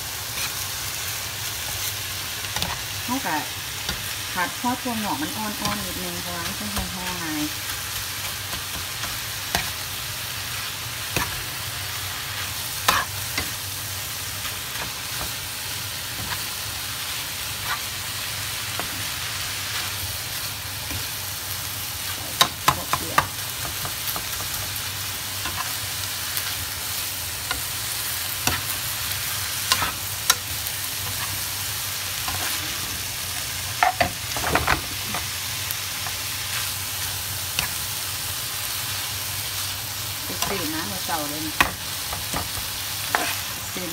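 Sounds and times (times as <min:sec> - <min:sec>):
food sizzling in pan: 0:00.0 - 0:43.9.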